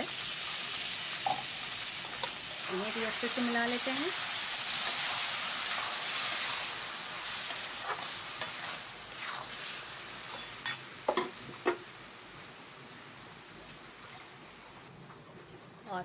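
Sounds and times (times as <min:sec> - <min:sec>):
vegetables sizzling in a pan: 0:00.0 - 0:14.9.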